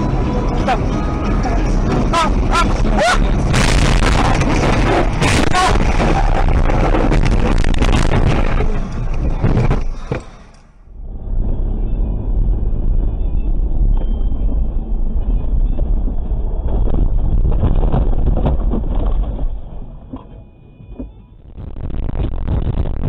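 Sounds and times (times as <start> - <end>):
car engine rumble: 0.0 - 23.0
road noise: 0.0 - 23.0.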